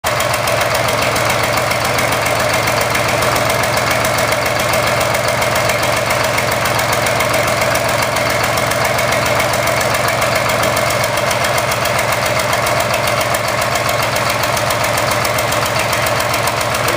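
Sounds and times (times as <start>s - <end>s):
car engine idling with misfire: 0.0s - 16.9s.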